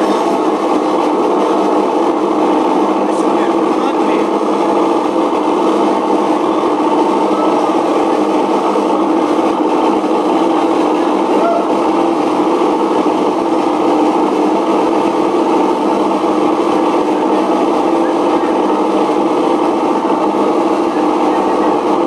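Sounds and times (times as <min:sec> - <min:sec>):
dense electronic drone: 0:00.0 - 0:22.0.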